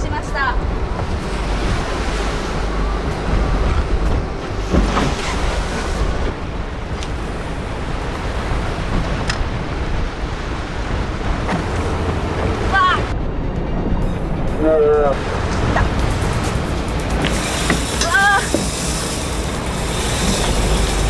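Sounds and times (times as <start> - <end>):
deep rumble: 0.0 - 21.0
sea water rushing around boat: 0.0 - 21.0
wind buffeting microphone: 0.0 - 21.0.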